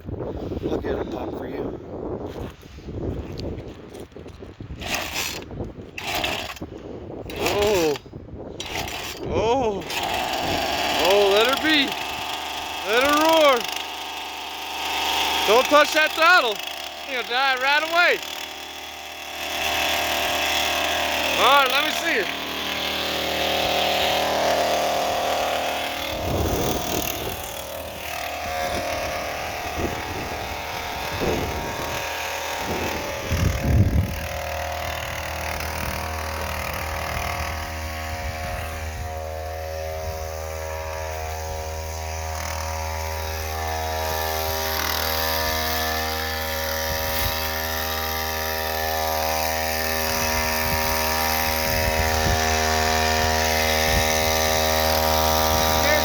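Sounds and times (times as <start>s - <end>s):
chainsaw engine idling: 6.0s - 6.6s, 7.3s - 8.0s, 8.6s - 56.0s.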